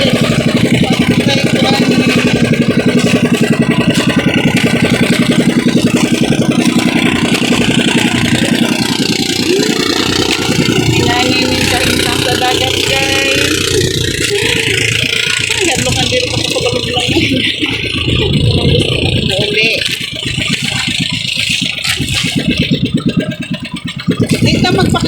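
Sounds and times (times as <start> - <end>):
boat engine pulsing: 0.0 - 25.0.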